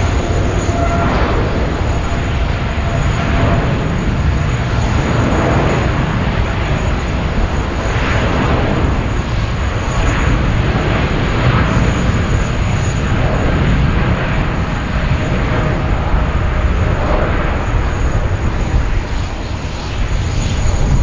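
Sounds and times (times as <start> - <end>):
high jet whine: 0.0 - 21.0
jet engine roar at takeoff: 0.0 - 21.0.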